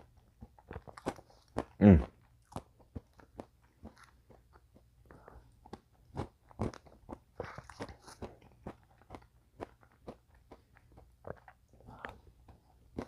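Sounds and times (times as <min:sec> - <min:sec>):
person chewing ice cream: 0:00.0 - 0:13.0.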